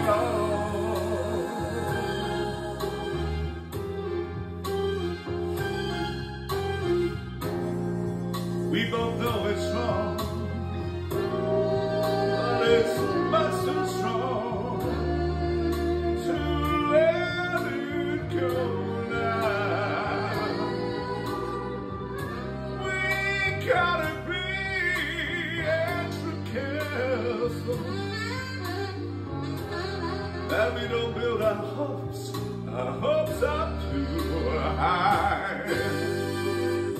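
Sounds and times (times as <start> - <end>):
person singing with vibrato: 0.0 - 3.9, 8.6 - 36.9
instrumental backing with bass: 0.0 - 36.9.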